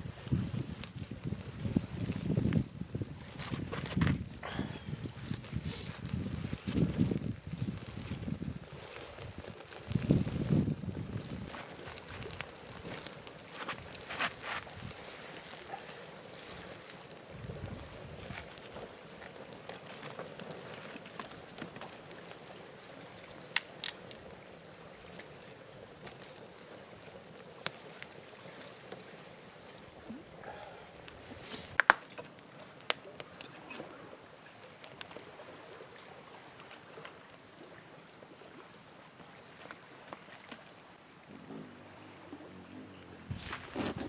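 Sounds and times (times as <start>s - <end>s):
campfire crackling: 0.0s - 44.0s
fire popping: 0.0s - 44.0s.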